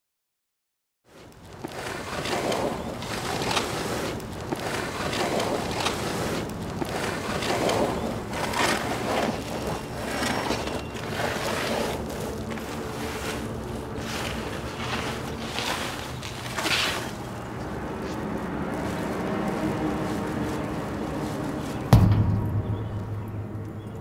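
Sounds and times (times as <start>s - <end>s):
plastic bag scraping on asphalt: 1.0s - 22.0s.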